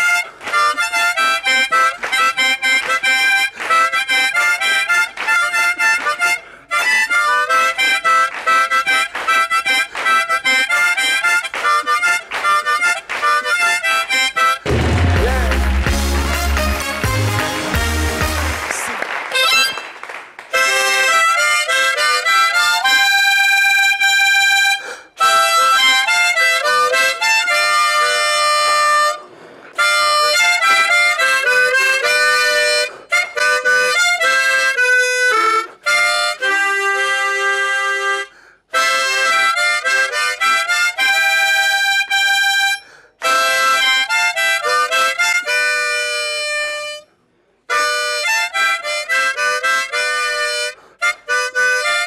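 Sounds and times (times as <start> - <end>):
harmonica melody: 0.0 - 52.0.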